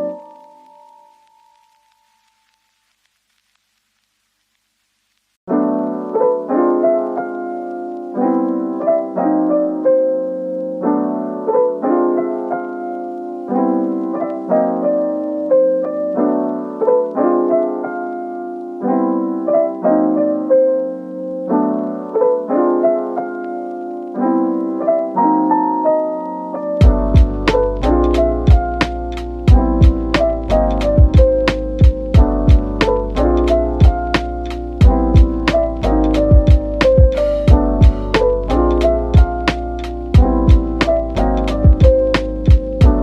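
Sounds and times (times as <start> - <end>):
soft piano music: 0.0 - 2.8, 5.5 - 43.0.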